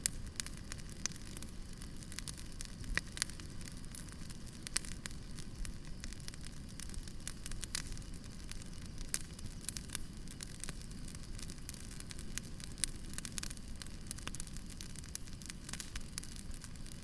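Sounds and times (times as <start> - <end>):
campfire crackling and popping: 0.0 - 17.0
low rumble of flames: 0.0 - 17.0.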